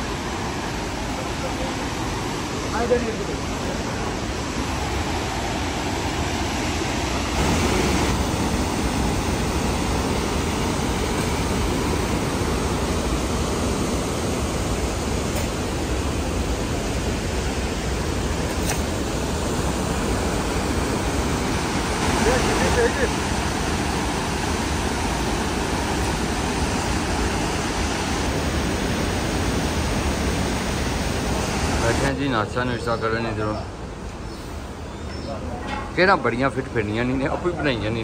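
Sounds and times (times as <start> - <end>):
steady rushing noise: 0.0 - 32.8.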